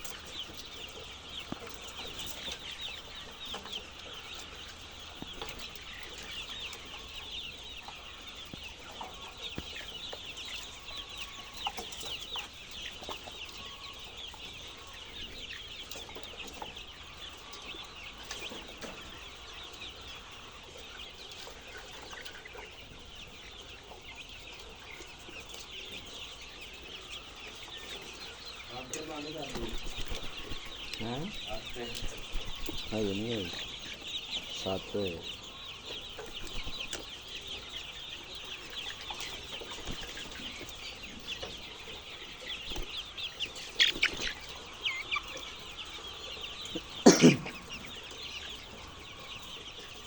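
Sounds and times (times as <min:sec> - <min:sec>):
chickens calling: 0:00.0 - 0:50.0.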